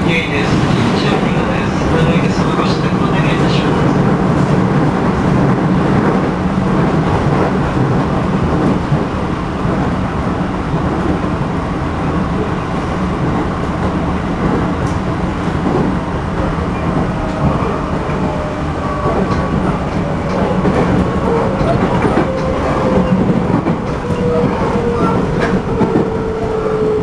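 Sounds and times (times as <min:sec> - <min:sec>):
wheel and track rumble: 0:00.0 - 0:27.0.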